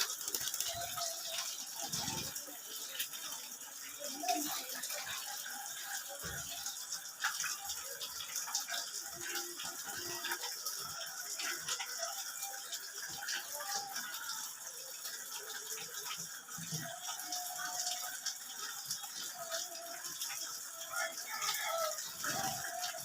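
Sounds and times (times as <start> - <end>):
water running and splashing: 0.0 - 23.0.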